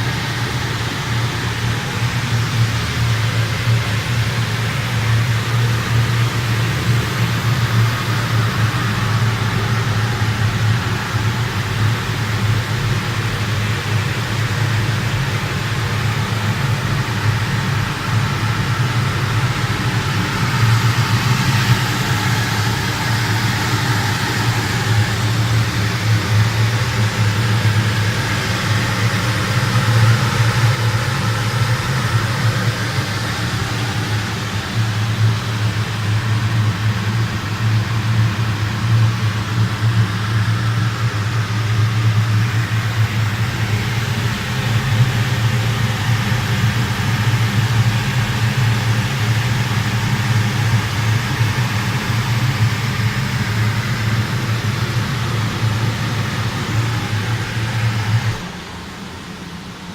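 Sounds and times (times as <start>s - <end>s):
low hum: 0.0s - 48.8s, 49.8s - 59.9s
oil burner roaring: 0.0s - 59.9s.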